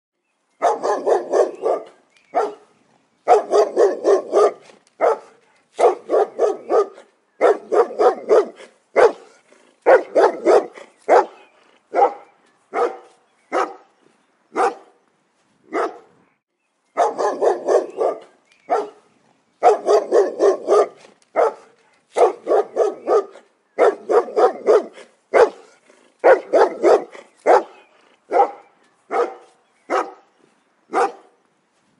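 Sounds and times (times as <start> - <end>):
dog barking: 0.6 - 2.7, 3.3 - 13.9, 14.6 - 15.0, 15.7 - 16.1, 17.0 - 19.0, 19.6 - 30.3, 30.9 - 31.4.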